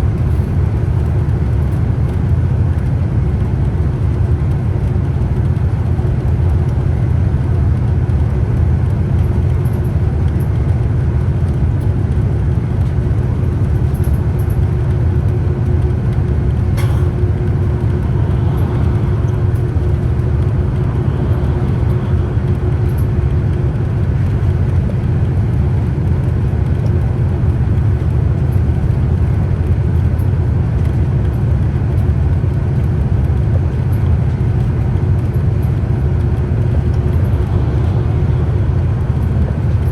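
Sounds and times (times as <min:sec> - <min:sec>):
bus engine and road rumble: 0:00.0 - 0:39.9
steady hum: 0:00.0 - 0:39.9.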